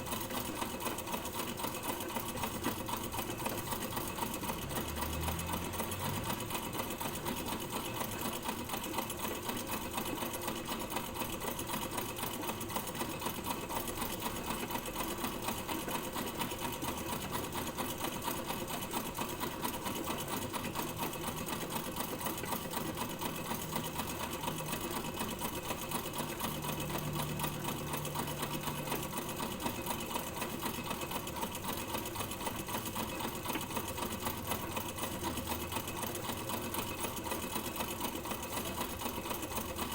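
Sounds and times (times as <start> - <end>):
sewing machine running: 0.0 - 39.9.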